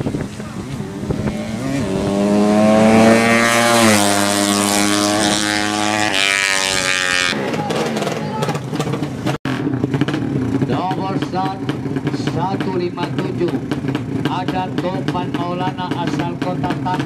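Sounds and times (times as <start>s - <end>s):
motorcycle engine at full throttle: 0.0s - 17.0s.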